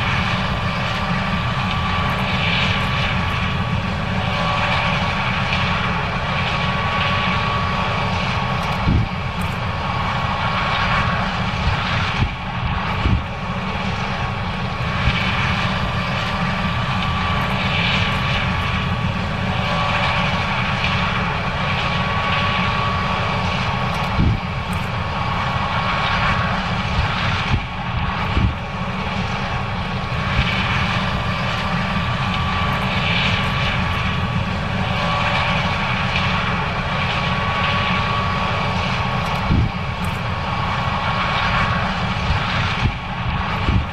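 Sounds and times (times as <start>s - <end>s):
combine harvester running: 0.0s - 43.9s
machine whine: 0.0s - 43.9s.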